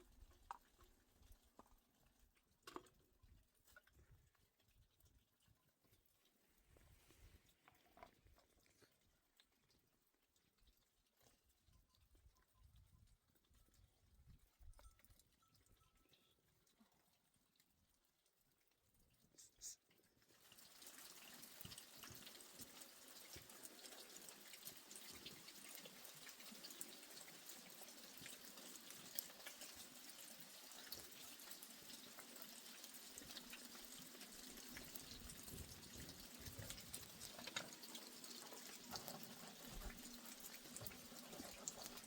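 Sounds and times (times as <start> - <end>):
faint rain dripping and pattering: 0.0 - 42.0.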